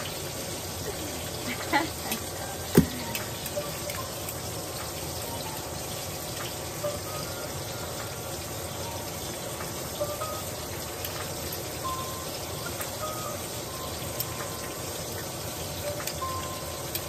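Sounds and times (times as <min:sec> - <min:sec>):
steak sizzling in a frying pan: 0:00.0 - 0:17.0.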